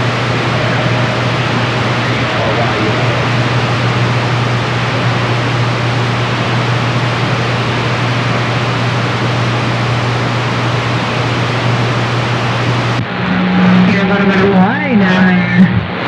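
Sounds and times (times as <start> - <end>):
low hum: 0.0 - 16.0
radio static hiss: 0.0 - 16.0.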